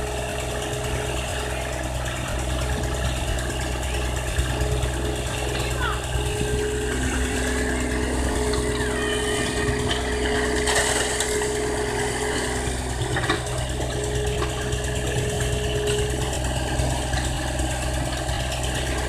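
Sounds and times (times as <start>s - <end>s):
diesel engine running: 0.0s - 19.0s
steady whine: 0.0s - 19.0s.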